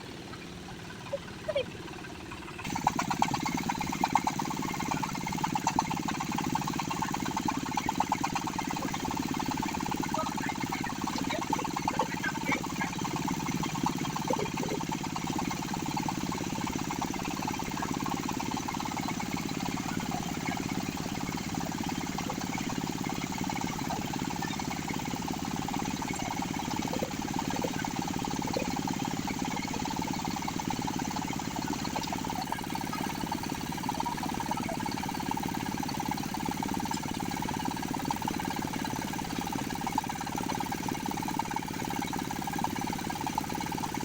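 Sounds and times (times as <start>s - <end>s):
machine running steadily: 0.0s - 44.0s.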